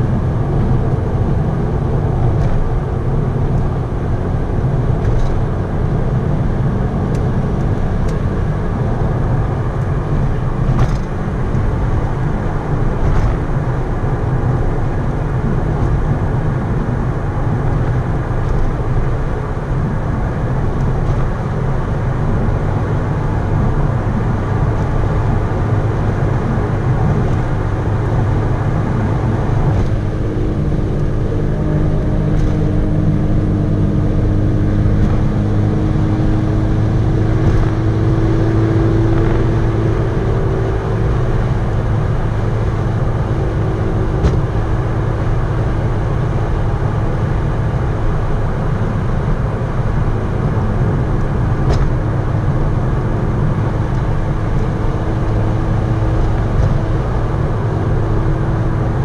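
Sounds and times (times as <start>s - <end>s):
car engine drone: 0.0s - 59.0s
tyre and road noise: 0.0s - 59.0s.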